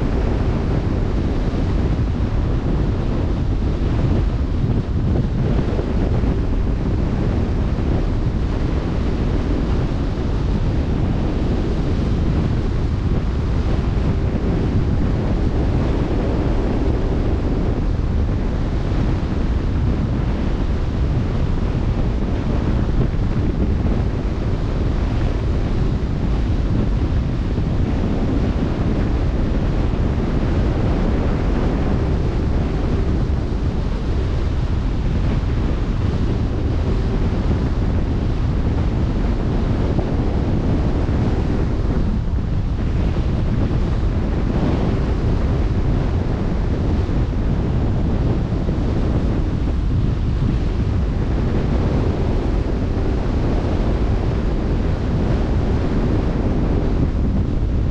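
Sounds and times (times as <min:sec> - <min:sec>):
wind noise on microphone: 0:00.0 - 0:57.9.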